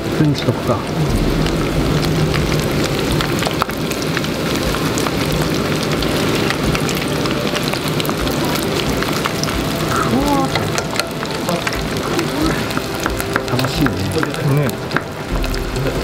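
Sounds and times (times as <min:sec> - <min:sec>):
fish deep-frying in oil: 0:00.0 - 0:16.0.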